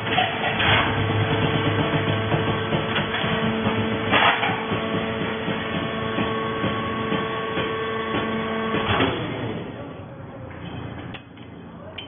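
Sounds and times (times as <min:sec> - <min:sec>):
baler pump motor humming: 0:00.0 - 0:10.1.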